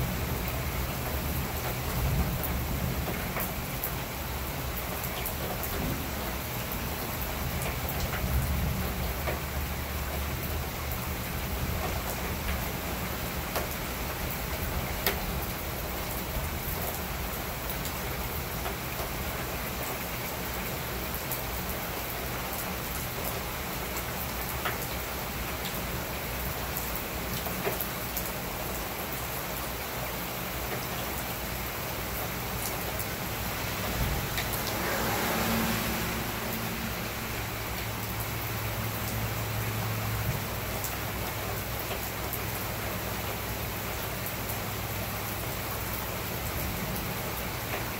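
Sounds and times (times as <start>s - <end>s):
heavy rain on paving: 0.0s - 47.9s.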